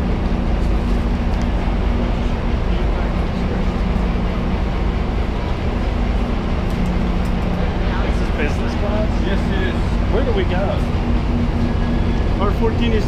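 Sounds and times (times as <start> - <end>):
idling train drone: 0.0 - 13.0
two-tone hum: 0.0 - 13.0
murmur of voices: 1.0 - 13.0.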